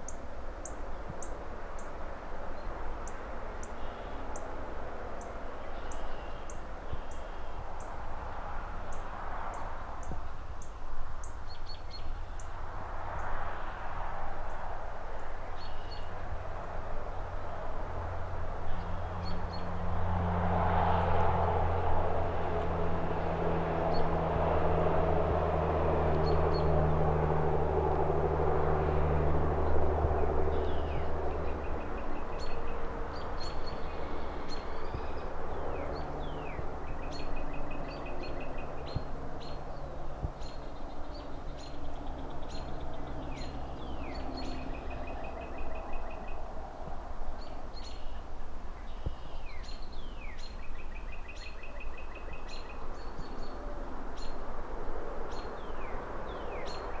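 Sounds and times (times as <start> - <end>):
distant traffic hum: 0.0 - 57.0
passing traffic engine drone: 0.0 - 57.0.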